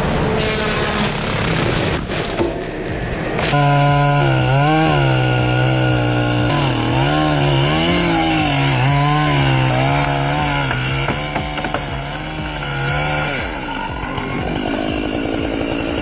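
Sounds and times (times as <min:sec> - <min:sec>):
chainsaw running at high revs: 0:00.0 - 0:16.0.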